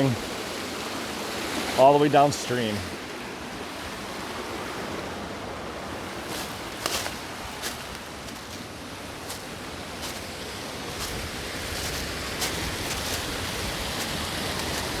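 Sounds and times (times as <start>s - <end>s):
creek pouring over cascades: 0.0s - 15.0s.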